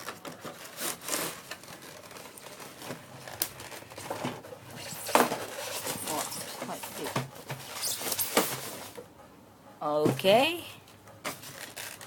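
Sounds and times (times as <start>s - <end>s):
packaging crinkling: 0.0s - 9.0s, 11.3s - 12.0s.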